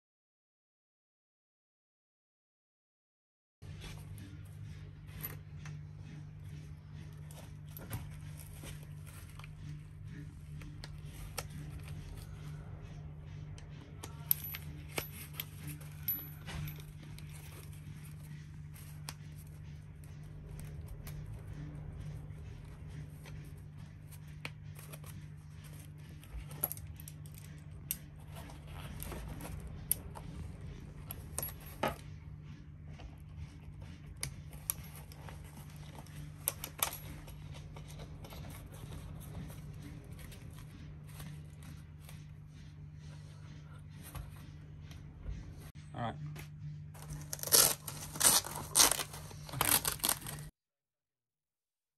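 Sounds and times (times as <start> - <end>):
low hum: 3.6 - 50.5.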